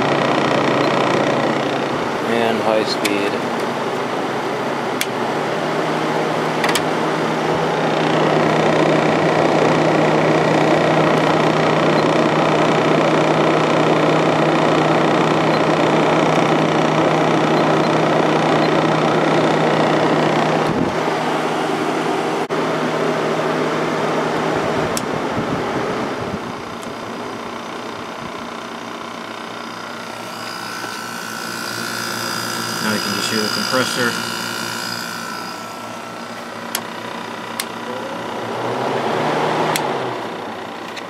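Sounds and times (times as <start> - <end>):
air conditioner fan rushing air: 0.0 - 41.0
compressor hum: 0.0 - 41.0.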